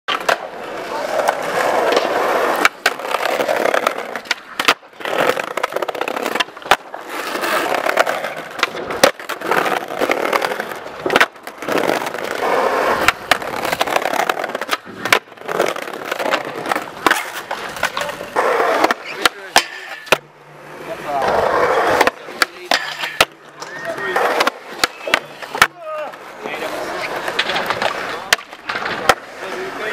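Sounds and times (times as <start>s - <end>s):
skateboard popping and landing: 0.1s - 29.9s
skateboard wheels rolling on brick: 0.1s - 29.9s.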